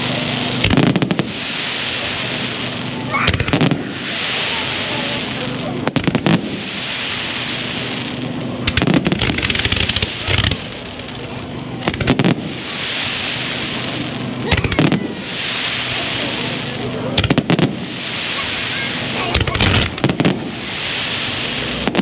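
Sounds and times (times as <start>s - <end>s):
fireworks bangs: 0.0s - 22.0s
crackling hiss of shells: 0.6s - 11.2s, 11.9s - 22.0s.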